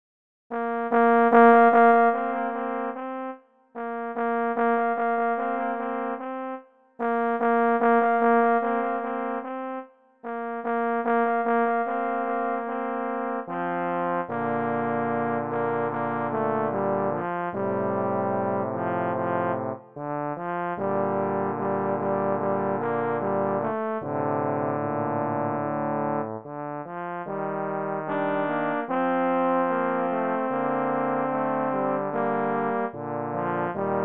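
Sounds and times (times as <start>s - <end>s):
trombones playing: 0.5s - 34.0s.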